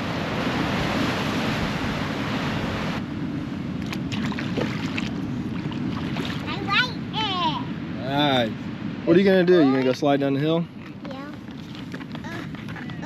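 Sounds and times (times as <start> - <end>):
ocean surf rushing: 0.0 - 13.0
wind on microphone: 0.0 - 13.0.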